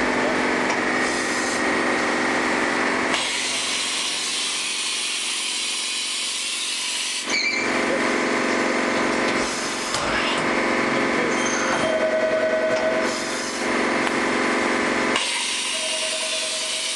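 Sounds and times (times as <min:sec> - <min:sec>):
machine hum and whine: 0:00.0 - 0:16.9.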